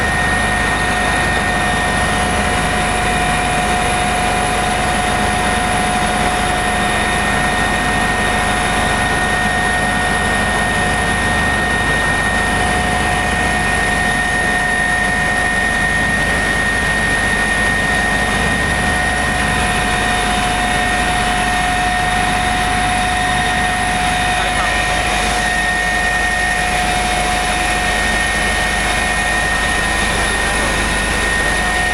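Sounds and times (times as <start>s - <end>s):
helicopter rumble: 0.0s - 31.9s
high helicopter whines: 0.0s - 31.9s.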